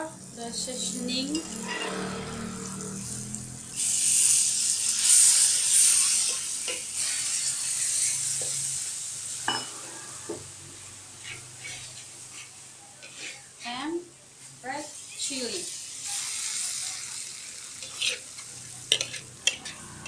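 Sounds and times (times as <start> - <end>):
metal spatula scraping wok: 0.8 - 13.8, 15.7 - 20.0
spice paste sizzling in butter: 3.0 - 10.2, 11.1 - 20.0.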